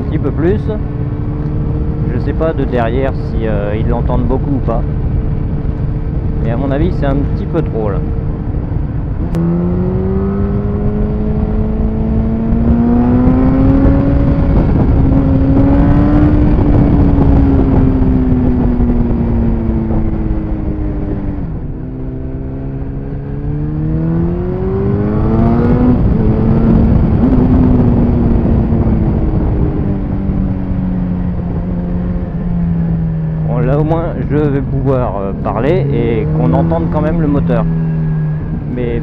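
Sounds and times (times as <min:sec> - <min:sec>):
gear change: 0:00.0 - 0:39.0
motorcycle engine revving: 0:00.0 - 0:39.0
wind noise: 0:00.0 - 0:39.0.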